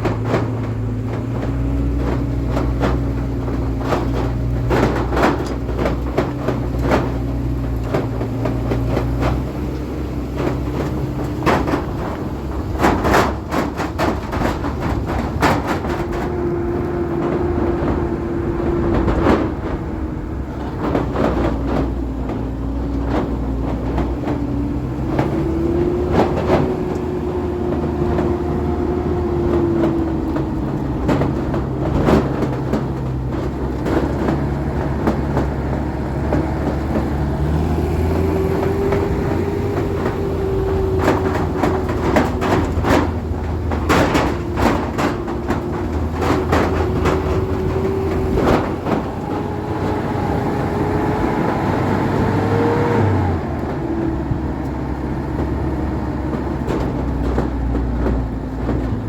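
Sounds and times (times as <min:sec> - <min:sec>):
rattles and knocks: 0:00.0 - 0:59.0
vehicle engine running: 0:00.0 - 0:59.0.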